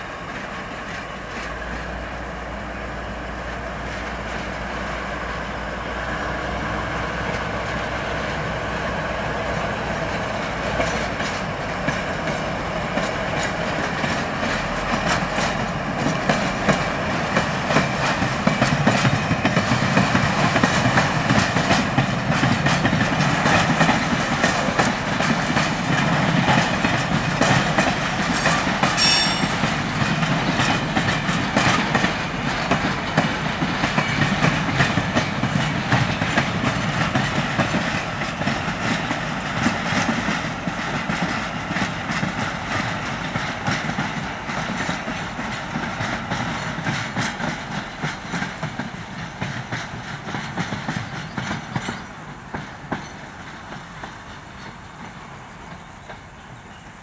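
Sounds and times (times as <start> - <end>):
diesel locomotive engines: 0.0 - 57.0
train wheels clattering over rail joints: 0.0 - 57.0.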